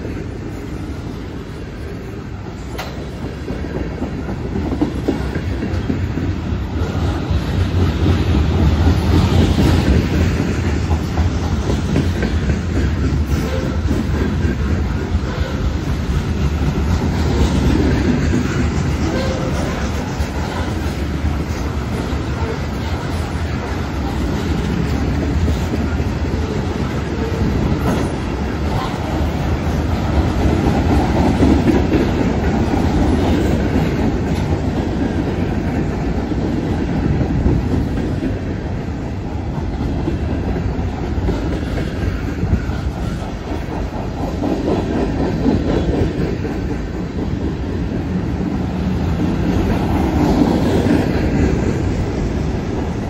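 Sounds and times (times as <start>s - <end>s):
train wheels clattering on rails: 0.0s - 53.0s.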